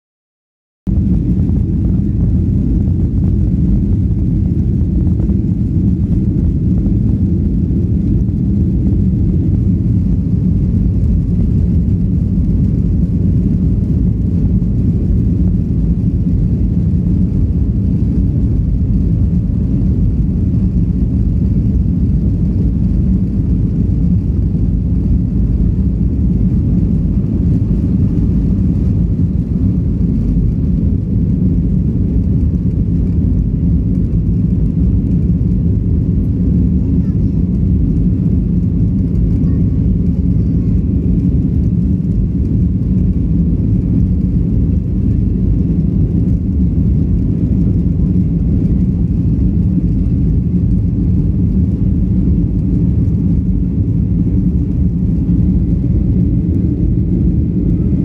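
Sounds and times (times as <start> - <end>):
jet engines rumbling in cabin: 0.9 - 58.0.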